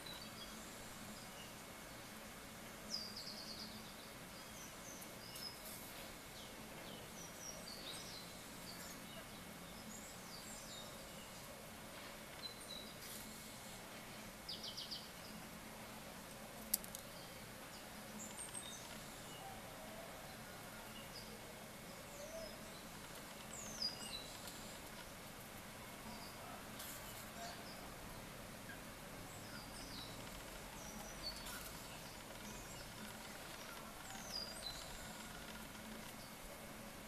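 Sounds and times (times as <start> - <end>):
faint background hiss: 0.0 - 37.0
small birds chirping: 0.0 - 37.0.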